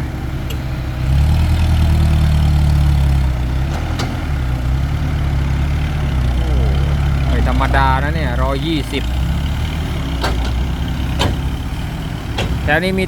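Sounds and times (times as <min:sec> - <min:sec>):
diesel truck engine pulling away: 0:00.0 - 0:13.0.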